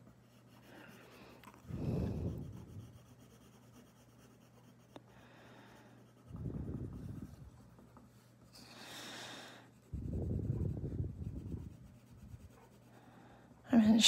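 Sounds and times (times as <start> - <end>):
colored pencil shading on paper: 0.0 - 8.6, 9.6 - 14.0.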